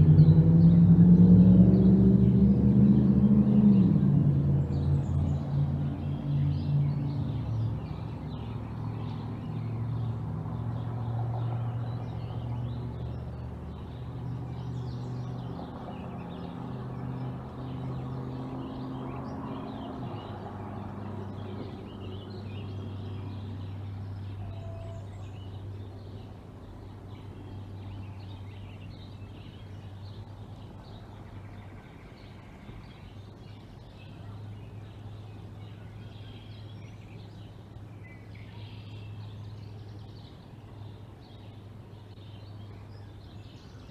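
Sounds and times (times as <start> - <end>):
birds chirping: 0.0 - 43.9
low engine drone: 0.0 - 43.9.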